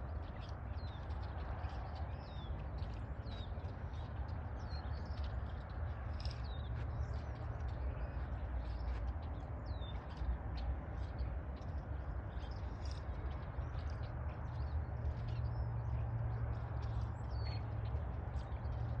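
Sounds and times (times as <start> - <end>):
flock of birds chirping: 0.0 - 19.0
steady low rumble: 0.0 - 19.0.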